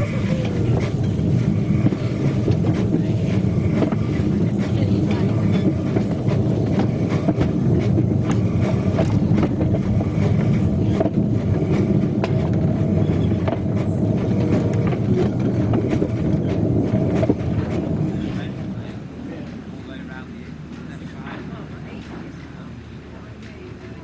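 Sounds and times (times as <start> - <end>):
wheels clicking and rattling: 0.0 - 22.6
train rumbling on rails: 0.0 - 24.0.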